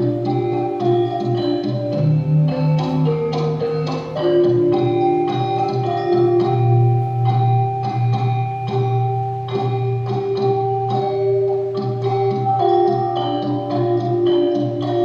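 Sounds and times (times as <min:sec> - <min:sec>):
gamelan metallophones struck: 0:00.0 - 0:15.0.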